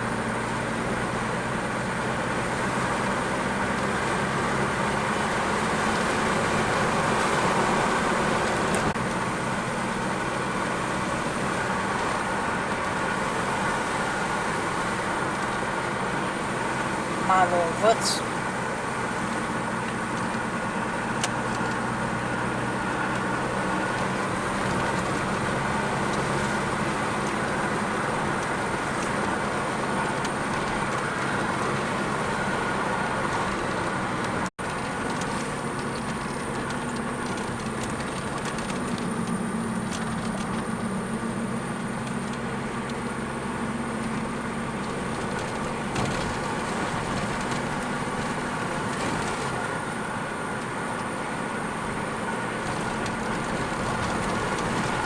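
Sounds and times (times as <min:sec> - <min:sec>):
car engine hum: 0:00.0 - 0:55.0
tyre and road noise: 0:00.0 - 0:55.0.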